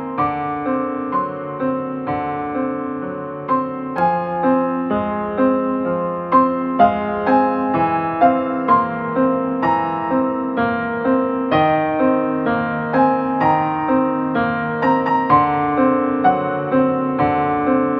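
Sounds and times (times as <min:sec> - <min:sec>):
gentle piano music: 0:00.0 - 0:17.9.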